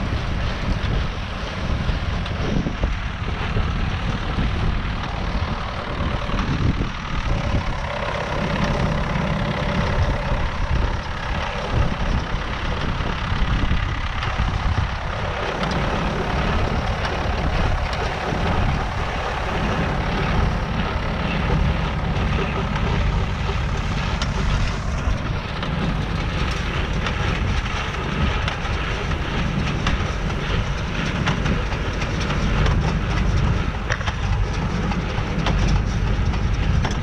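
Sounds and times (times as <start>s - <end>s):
engine running: 0.0s - 37.0s
wind buffeting microphone: 0.0s - 37.0s.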